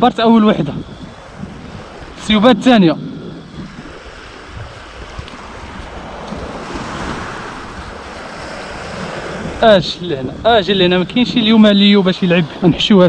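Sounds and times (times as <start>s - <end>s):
sea surf washing in: 0.0s - 13.0s
wind rumbling on microphone: 0.0s - 13.0s.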